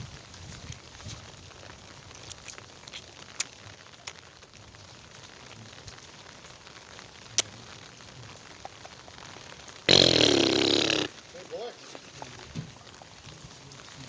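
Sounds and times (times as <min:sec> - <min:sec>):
raindrops ticking close by: 0:00.0 - 0:14.0
steady rain falling: 0:00.0 - 0:14.0.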